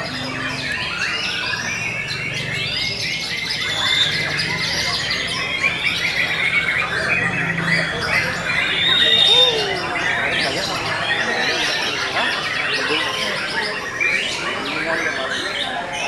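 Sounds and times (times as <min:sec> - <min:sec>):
birds singing chorus: 0:00.0 - 0:16.0.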